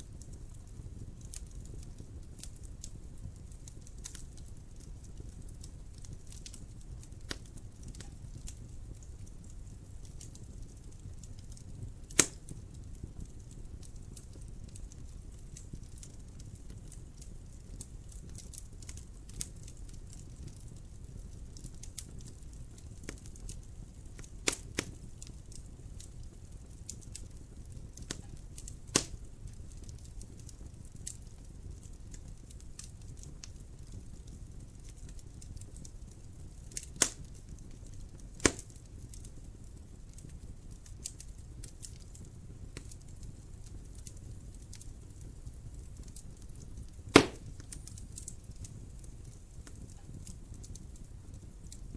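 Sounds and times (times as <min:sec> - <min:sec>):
low rumble of burning: 0:00.0 - 0:51.9
wood fire crackling and popping: 0:00.0 - 0:51.9.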